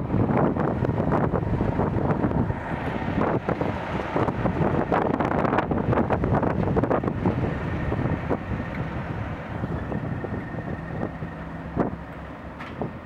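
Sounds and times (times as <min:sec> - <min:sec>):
diesel locomotive engine running: 0:00.0 - 0:13.0
wheels clicking over rails: 0:00.0 - 0:13.0
wind on microphone: 0:00.0 - 0:13.0.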